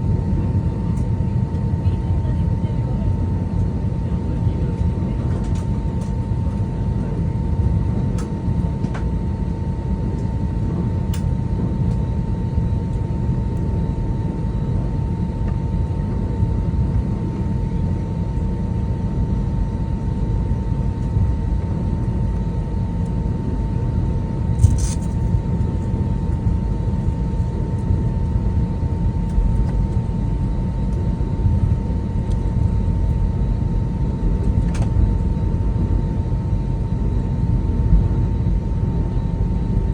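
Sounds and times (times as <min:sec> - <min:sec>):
aircraft cabin rumble: 0:00.0 - 0:39.9
engine whine: 0:03.3 - 0:39.9.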